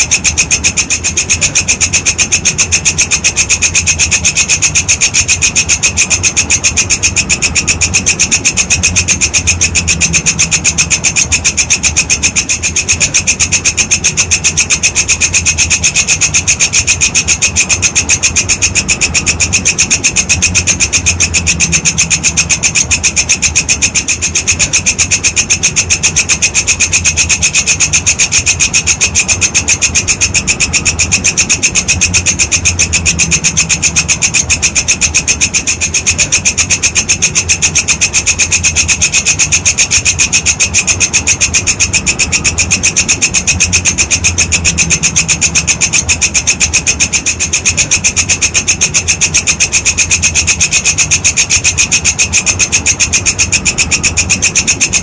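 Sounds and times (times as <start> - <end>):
insect rasping call: 0.0 - 55.0
low hum: 0.0 - 55.0.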